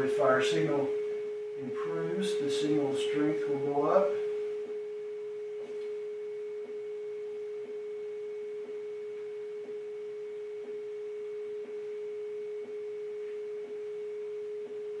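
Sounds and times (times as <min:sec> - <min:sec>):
steady pure tone: 0:00.0 - 0:15.0.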